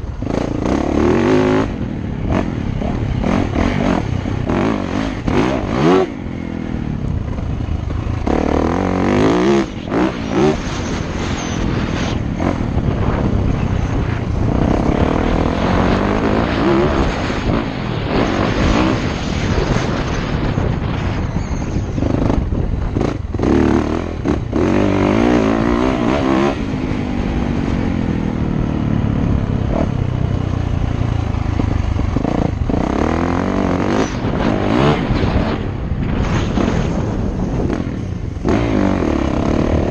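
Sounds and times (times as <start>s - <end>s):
dirt bike engine revving: 0.0s - 30.0s, 31.2s - 39.9s.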